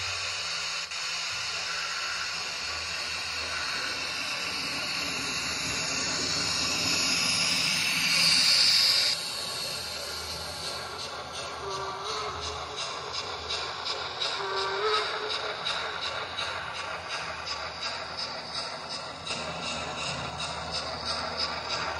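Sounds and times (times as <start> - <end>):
simulated steam hiss: 0.0 - 21.9.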